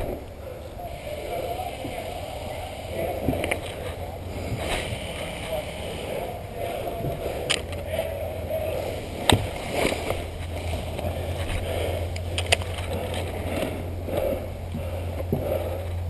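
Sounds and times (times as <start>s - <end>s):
low rumble and microphone rustling: 0.0s - 16.0s.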